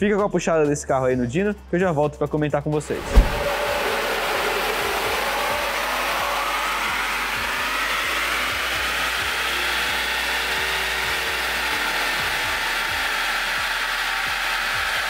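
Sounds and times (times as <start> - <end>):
diesel engine under full load: 2.9 - 15.0.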